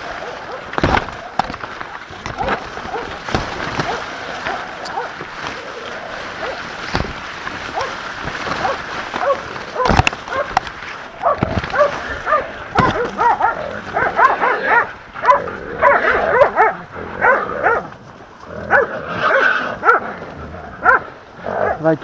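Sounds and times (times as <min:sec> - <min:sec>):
dogs barking and yelping: 0:00.0 - 0:06.7, 0:07.7 - 0:10.6, 0:11.2 - 0:18.0, 0:18.6 - 0:20.1, 0:20.8 - 0:21.8.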